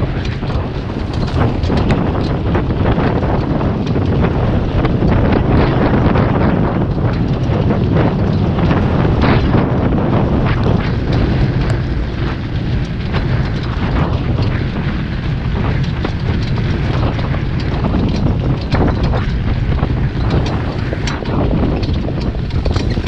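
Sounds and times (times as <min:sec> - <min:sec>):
cart rattling: 0:00.0 - 0:23.0
hooves trotting on dirt: 0:00.0 - 0:23.0
wind buffeting microphone: 0:00.0 - 0:23.0.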